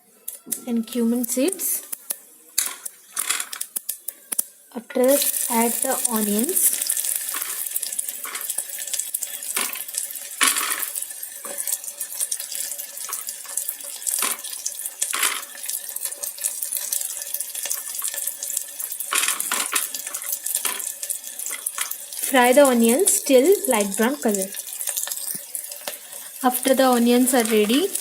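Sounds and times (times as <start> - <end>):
onions sizzling in hot oil: 0.4 - 28.0.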